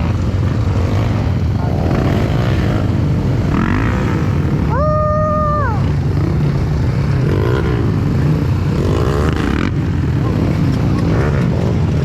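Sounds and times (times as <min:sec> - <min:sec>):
small petrol engine droning: 0:00.0 - 0:12.0.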